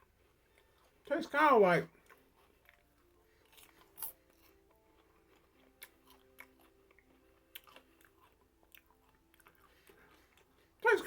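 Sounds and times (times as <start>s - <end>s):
faint melodic background music: 0.0s - 11.0s
popcorn crunching: 1.9s - 10.9s.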